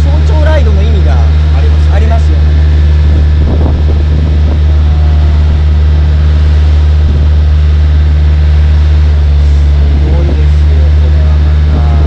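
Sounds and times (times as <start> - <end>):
boat engine droning: 0.0 - 12.0
rushing wind: 0.0 - 12.0
water noise: 0.0 - 12.0.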